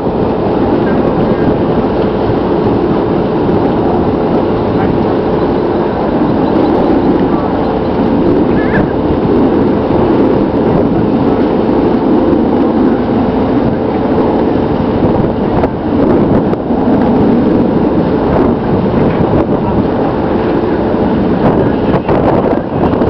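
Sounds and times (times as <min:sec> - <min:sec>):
boat engine running: 0:00.0 - 0:23.0
wind on microphone: 0:00.0 - 0:23.0.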